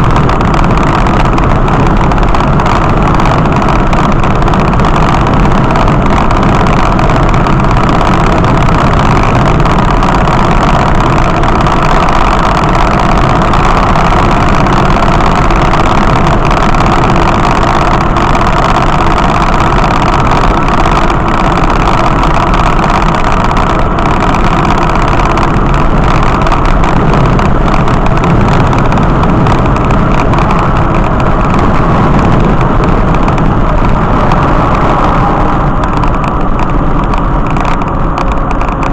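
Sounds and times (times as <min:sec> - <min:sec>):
vehicle road and engine noise: 0:00.0 - 0:38.9.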